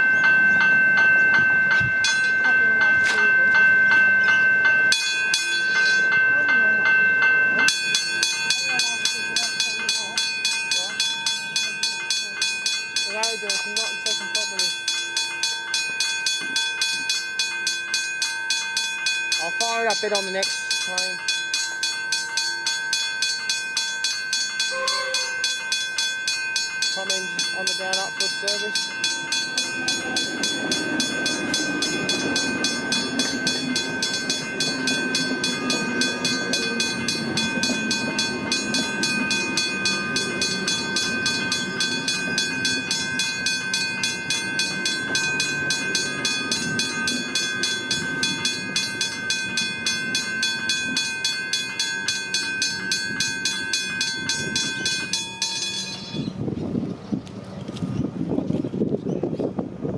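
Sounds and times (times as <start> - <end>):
level crossing bell ringing: 0.0 - 56.3
train rumbling past: 0.0 - 58.4.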